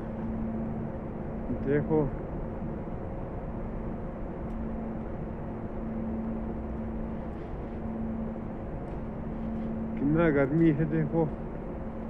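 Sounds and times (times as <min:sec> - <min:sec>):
low hum: 0:00.0 - 0:12.0
machinery drone: 0:00.0 - 0:12.0.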